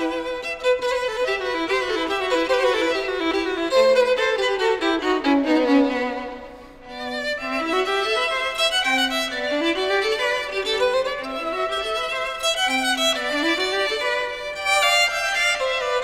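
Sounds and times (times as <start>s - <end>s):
violin melody with background music: 0.0s - 16.0s.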